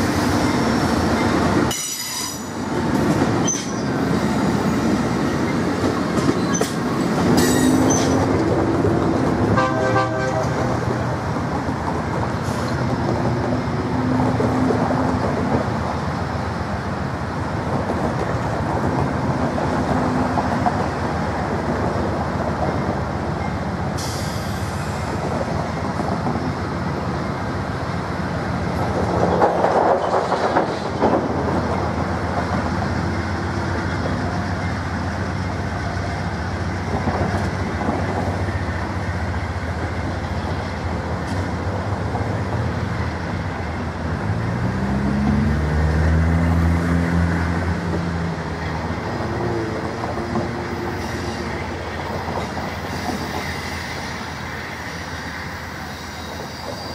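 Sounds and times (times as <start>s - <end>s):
train coaches rumbling: 0.0s - 56.9s.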